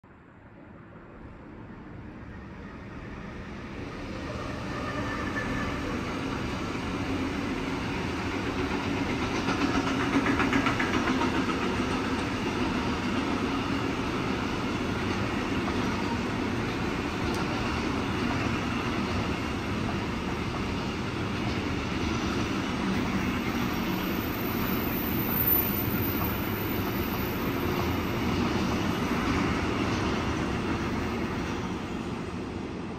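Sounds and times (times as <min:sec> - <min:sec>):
freight train wheels rumbling: 0:01.8 - 0:32.9.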